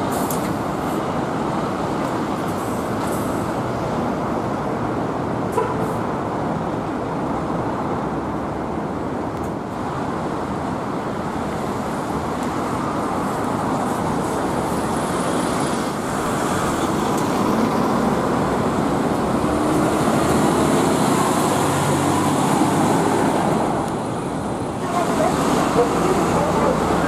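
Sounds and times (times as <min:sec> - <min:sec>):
bus and trucks driving past: 0:00.0 - 0:27.0.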